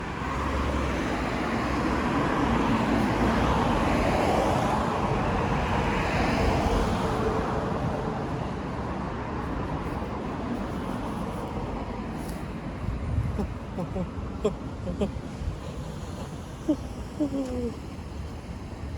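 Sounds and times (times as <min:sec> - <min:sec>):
car passing: 0:00.0 - 0:18.9.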